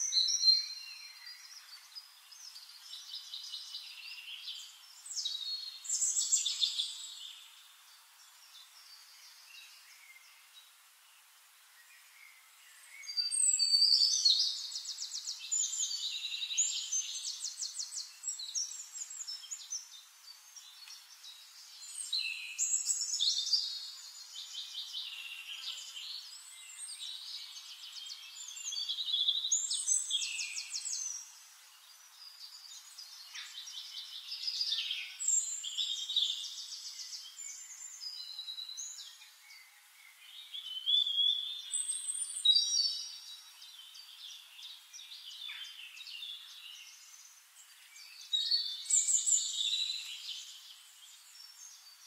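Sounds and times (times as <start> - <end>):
birds singing trills and whistles: 0.0 - 52.0.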